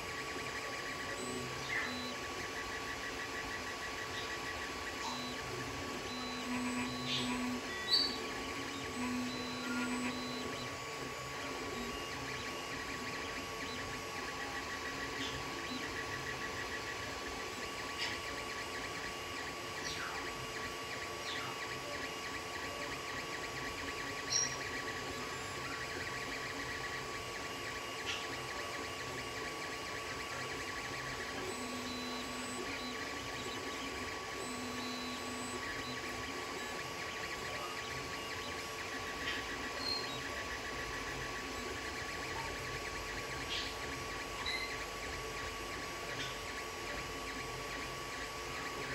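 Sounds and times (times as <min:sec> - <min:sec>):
cooling fans humming: 0:00.0 - 0:48.9
stepper motors whirring: 0:00.0 - 0:48.9.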